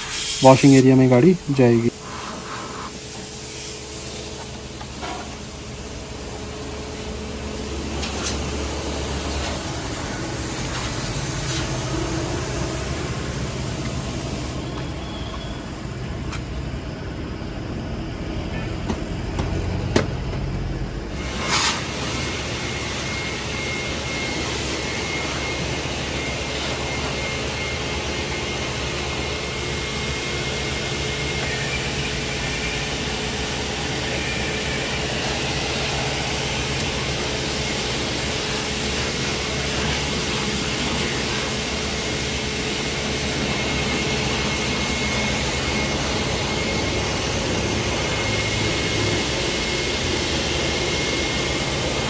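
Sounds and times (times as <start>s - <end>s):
compressed air hissing: 0.0s - 14.8s, 21.1s - 52.0s.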